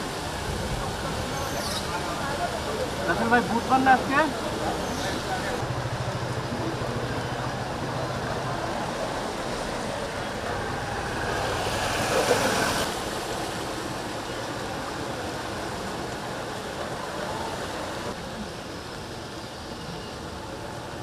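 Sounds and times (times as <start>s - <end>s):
flood water splashing: 0.0s - 21.0s.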